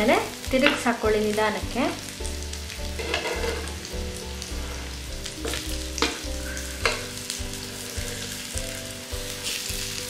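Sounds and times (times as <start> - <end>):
patties sizzling in oil: 0.0 - 10.0.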